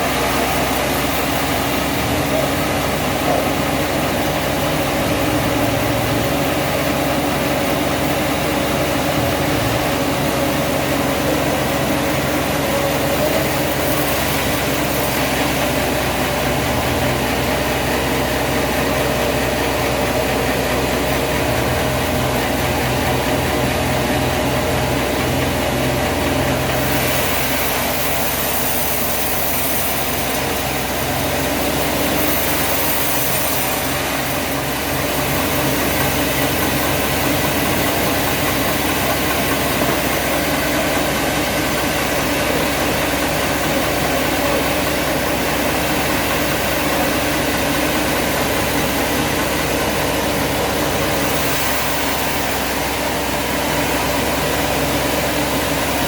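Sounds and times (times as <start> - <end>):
heavy engine running steadily: 0.0 - 56.0.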